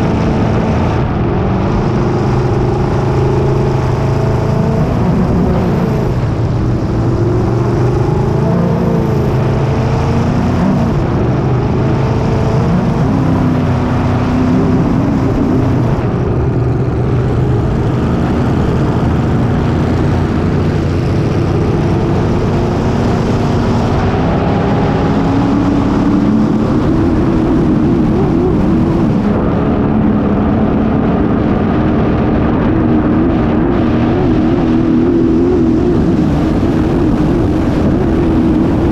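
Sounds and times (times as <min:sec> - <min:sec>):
boat engine running hard: 0:00.0 - 0:38.9
rush of wind and water: 0:00.0 - 0:38.9.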